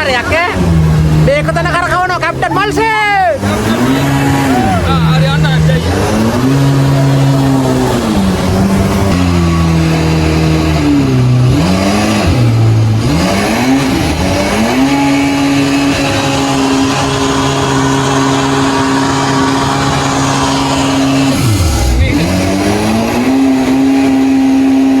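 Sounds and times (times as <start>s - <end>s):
jet boat engine revving: 0.0s - 25.0s.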